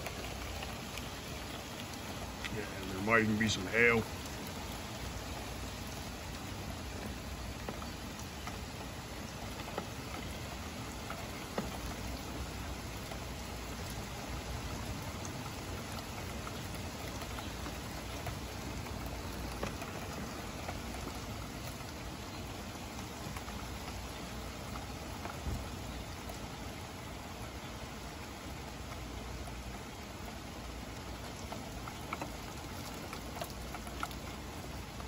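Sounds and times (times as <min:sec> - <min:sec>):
heavy rain hissing: 0:00.0 - 0:35.0
raindrops ticking: 0:00.0 - 0:35.0.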